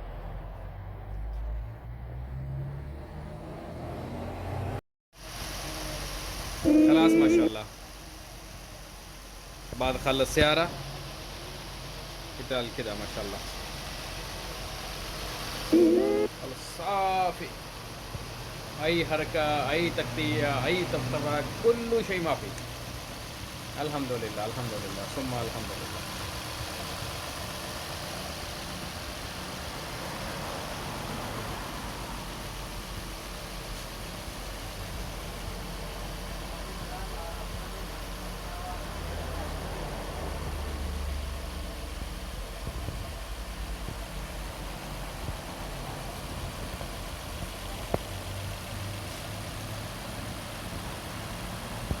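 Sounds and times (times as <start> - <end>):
car engine idling: 5.5 - 52.0.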